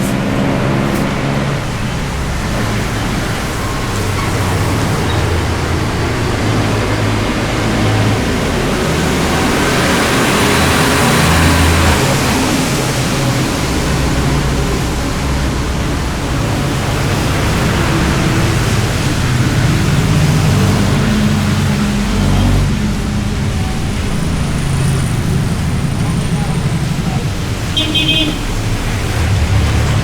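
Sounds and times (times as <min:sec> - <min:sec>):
motorcycle engine drone: 0:00.0 - 0:30.0
wind and rain on microphone: 0:00.0 - 0:30.0.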